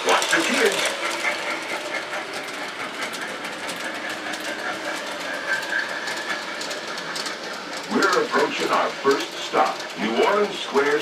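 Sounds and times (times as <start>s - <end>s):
train rumbling along track: 0.0s - 11.0s
wheels clicking over rails: 0.0s - 11.0s.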